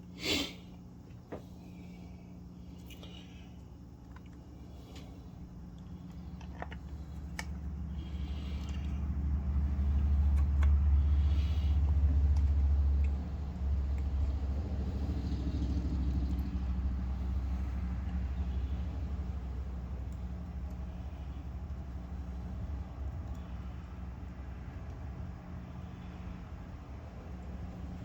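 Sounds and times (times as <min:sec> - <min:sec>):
air pump humming: 0:00.0 - 0:28.0.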